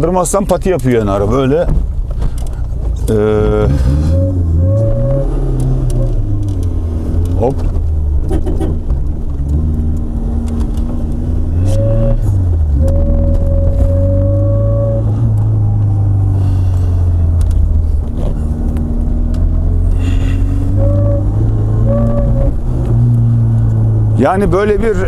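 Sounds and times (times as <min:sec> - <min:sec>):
car engine accelerating: 0:02.4 - 0:25.0.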